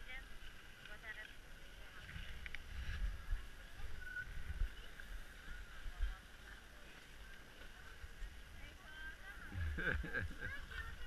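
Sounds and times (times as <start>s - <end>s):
sliding on packed snow: 0.0s - 11.0s
wind buffeting microphone: 1.7s - 11.0s.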